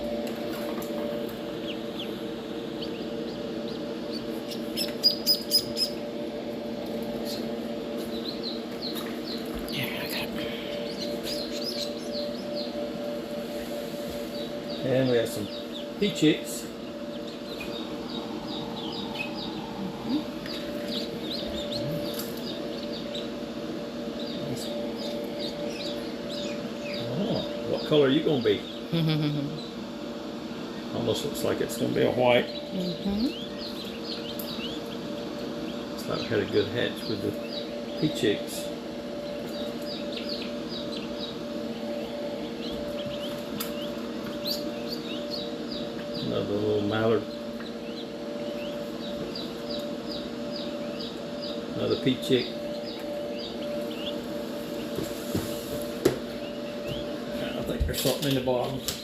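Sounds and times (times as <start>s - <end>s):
chicks peeping: 0.0s - 29.9s, 30.6s - 59.0s
low hum: 0.0s - 59.0s.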